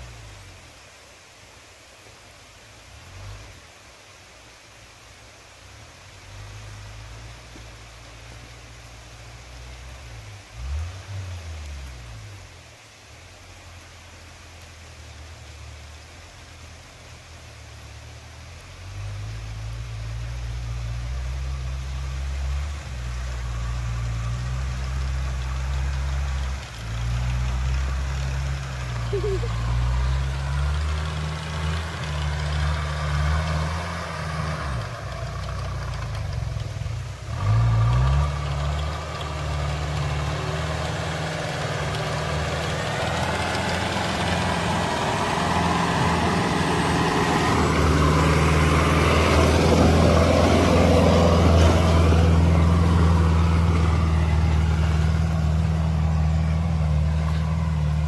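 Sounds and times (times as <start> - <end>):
off-road vehicle engine revving: 6.0 - 12.9, 17.2 - 58.0.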